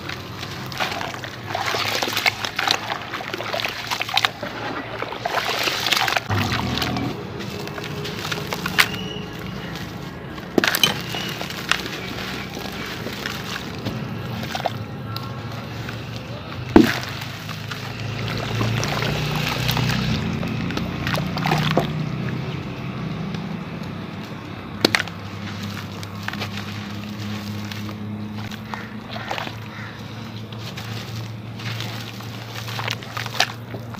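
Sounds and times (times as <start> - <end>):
water sloshing and dripping: 0.0 - 23.0, 24.2 - 33.9
gritty wet crunching: 0.0 - 33.9.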